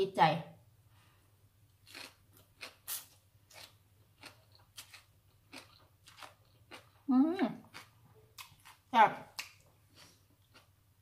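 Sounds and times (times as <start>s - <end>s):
chewing food: 1.8s - 10.8s.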